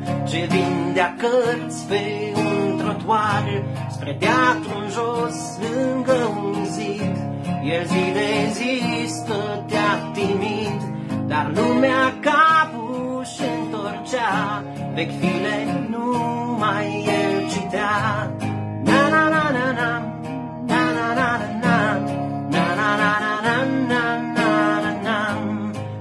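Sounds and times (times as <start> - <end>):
man singing folk song: 0.0 - 26.0
strummed acoustic guitar: 0.0 - 26.0.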